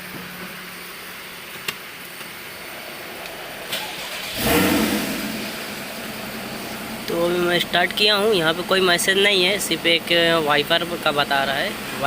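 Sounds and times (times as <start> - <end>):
car engine starting: 0.0 - 12.0.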